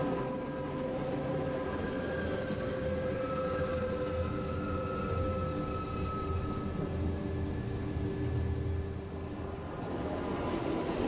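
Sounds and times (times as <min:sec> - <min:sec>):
low train running noise: 0:00.0 - 0:11.0
train wheels squealing on rails: 0:00.0 - 0:11.0.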